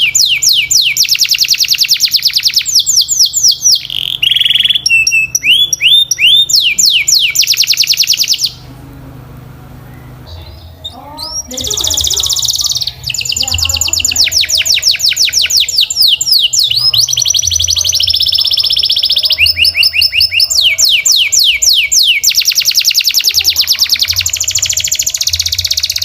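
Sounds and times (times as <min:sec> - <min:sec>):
canary singing trills: 0:00.0 - 0:08.9, 0:09.5 - 0:26.0.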